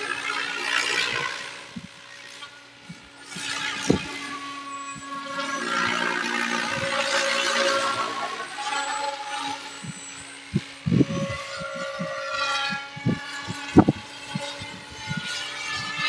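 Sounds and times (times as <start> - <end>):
model helicopter motor whine: 0.0 - 16.0.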